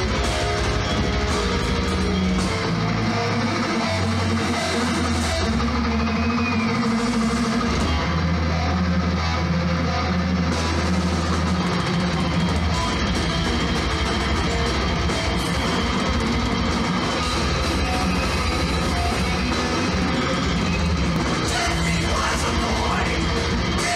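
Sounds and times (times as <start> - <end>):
metal band playing: 0.0 - 23.9.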